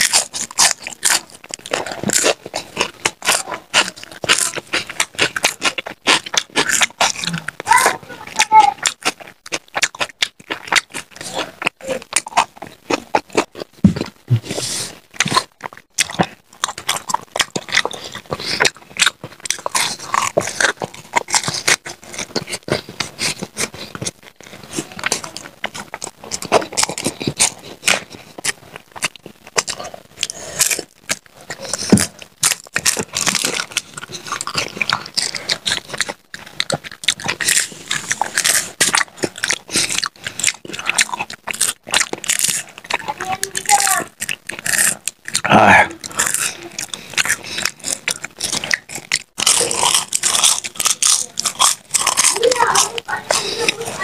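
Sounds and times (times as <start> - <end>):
crunching crisp snacks: 0.0 - 54.0.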